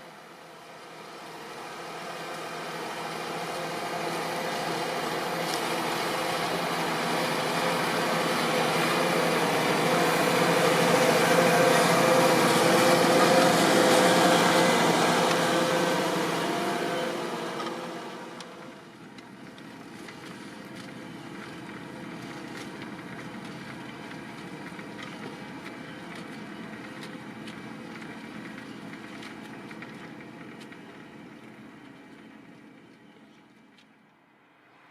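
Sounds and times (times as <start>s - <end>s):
tractor engine under load: 0.6s - 33.9s.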